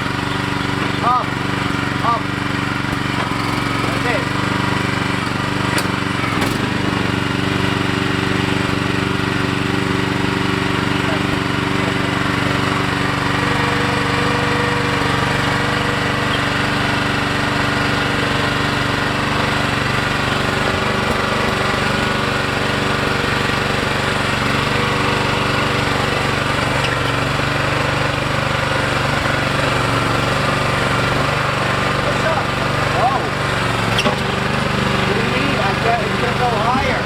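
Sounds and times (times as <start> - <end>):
excavator engine running: 0.0 - 37.0.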